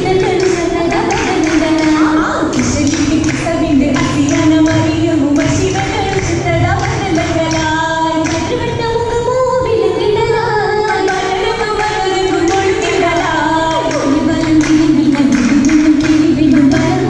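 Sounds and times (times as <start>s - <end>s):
girls singing in a group: 0.0s - 17.0s.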